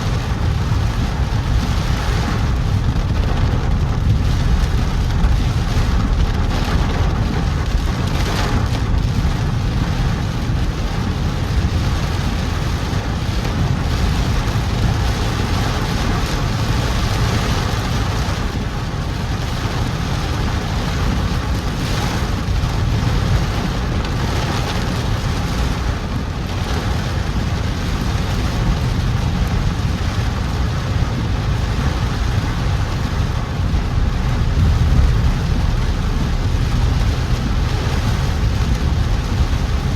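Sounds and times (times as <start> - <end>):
engine and tyres on wet road: 0.0 - 39.9
rain hissing on car: 0.0 - 39.9.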